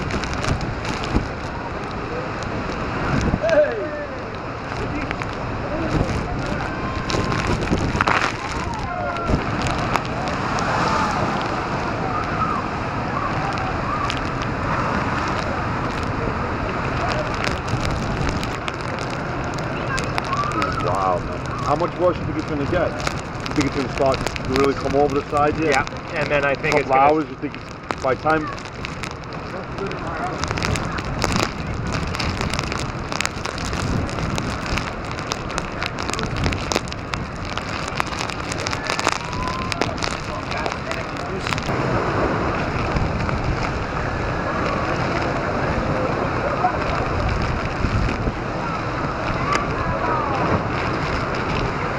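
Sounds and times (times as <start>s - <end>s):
storm surge water churning: 0.0s - 51.9s
waves breaking over a seawall: 0.0s - 51.9s
wind buffeting microphone: 0.0s - 51.9s.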